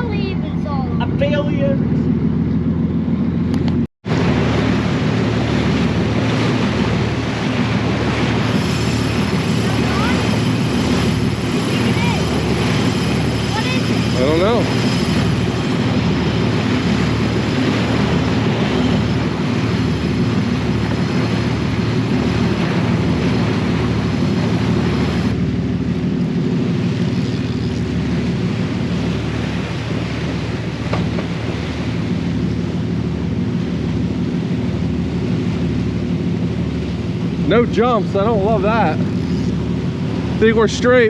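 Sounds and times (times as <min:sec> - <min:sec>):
boat engines droning: 0:00.0 - 0:41.0
rushing wind and water hiss: 0:03.6 - 0:41.0.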